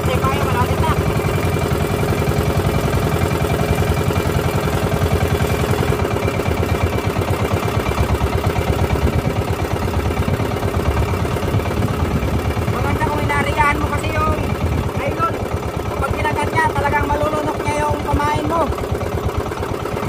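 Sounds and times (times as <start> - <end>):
boat engine pulsing hum: 0.0 - 20.0.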